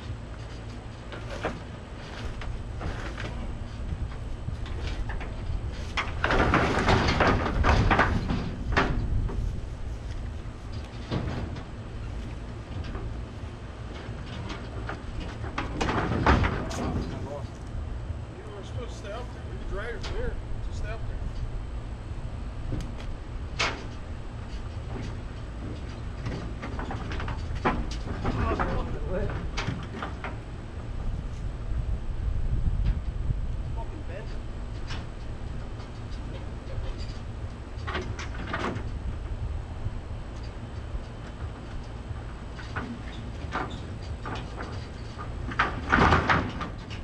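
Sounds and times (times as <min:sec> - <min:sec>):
wood scraping and knocking on metal: 0:00.0 - 0:17.8, 0:22.6 - 0:31.4, 0:34.3 - 0:47.0
steady low rumble: 0:00.0 - 0:47.0.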